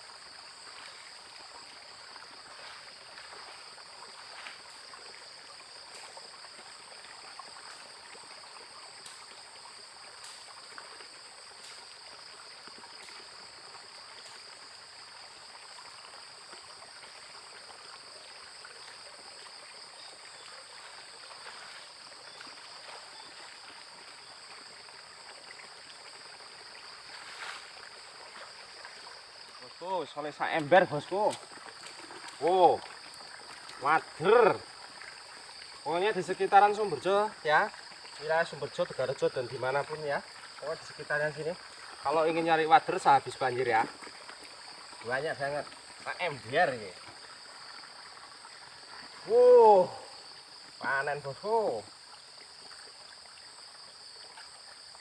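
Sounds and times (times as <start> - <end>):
water running in a channel: 0.0 - 55.0.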